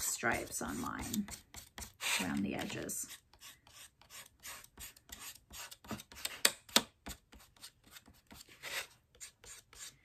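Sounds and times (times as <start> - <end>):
marker scratching on paper plate: 0.0 - 10.0.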